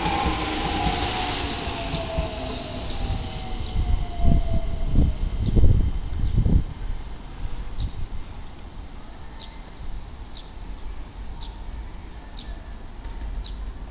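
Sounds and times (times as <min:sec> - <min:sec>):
train rumbling: 0:00.0 - 0:13.9.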